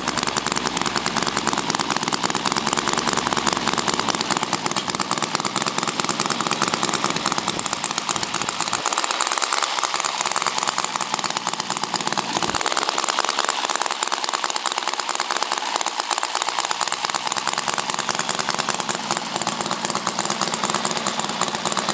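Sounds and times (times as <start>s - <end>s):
model engine rattling: 0.0s - 21.9s.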